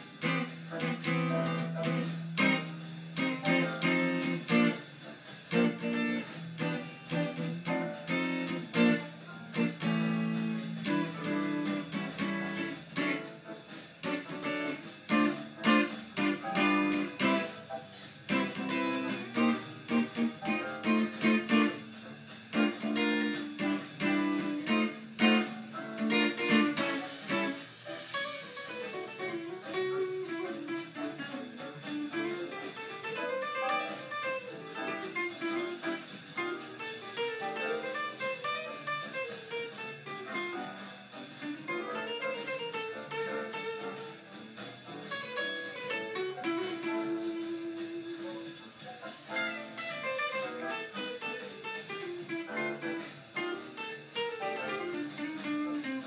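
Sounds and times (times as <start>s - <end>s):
jazz guitar playing: 0.0s - 56.0s.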